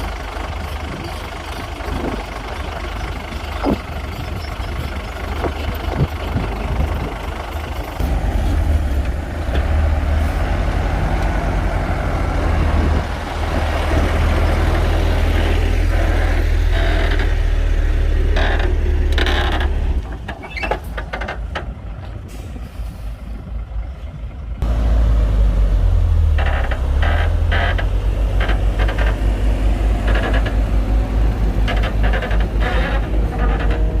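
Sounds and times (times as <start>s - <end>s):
heavy diesel engine rumbling: 0.0s - 34.0s.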